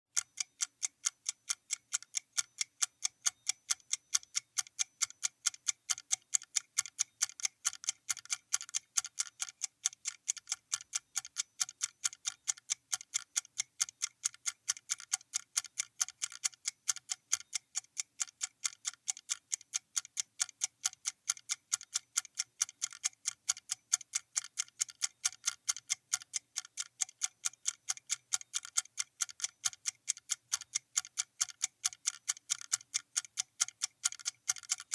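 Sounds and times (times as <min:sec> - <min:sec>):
rapid clock ticking: 0:00.2 - 0:34.9.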